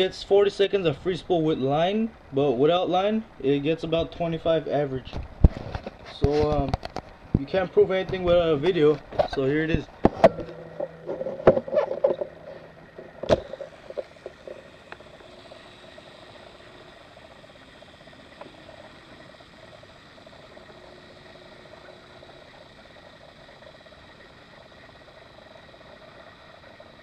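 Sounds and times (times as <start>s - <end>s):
reel spool whirring: 0.0s - 27.0s.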